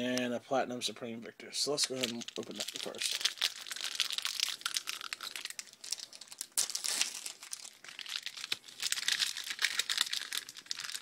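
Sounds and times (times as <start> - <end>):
foil wrapper crinkling and tearing: 1.8 - 11.0.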